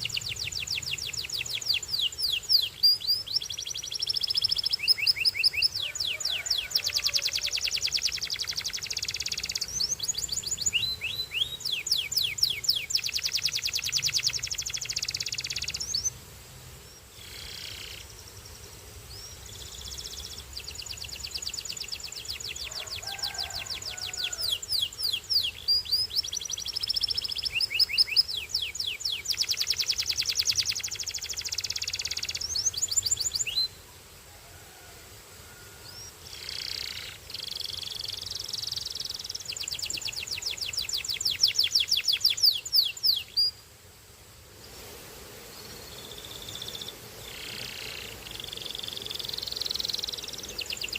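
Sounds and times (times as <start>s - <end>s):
canary singing: 0.0s - 16.2s, 19.1s - 33.8s, 35.9s - 43.6s, 46.0s - 50.9s.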